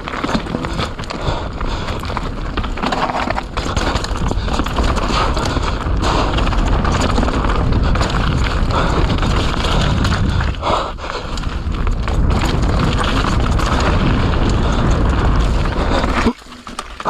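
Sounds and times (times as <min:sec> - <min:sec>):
bike chain and frame clattering: 0:00.0 - 0:10.6, 0:11.2 - 0:17.0
wind rumble on microphone: 0:00.0 - 0:16.4
bike tyres rolling over dirt: 0:00.0 - 0:17.0.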